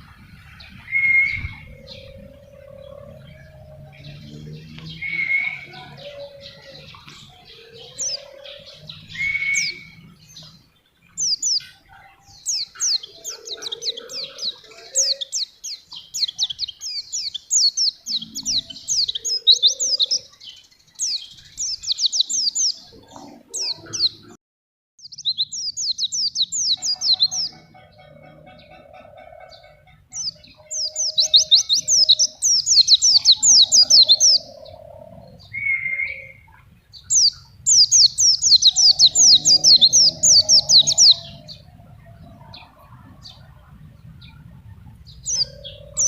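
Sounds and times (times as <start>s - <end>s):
bird singing high chirps: 0.0s - 24.3s, 25.0s - 28.8s, 29.5s - 46.0s.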